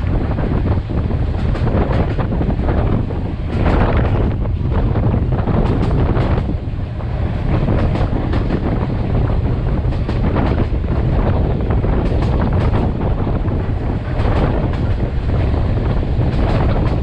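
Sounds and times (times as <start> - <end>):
train wheels rumbling on track: 0.0 - 17.0
wind buffeting microphone: 0.0 - 17.0.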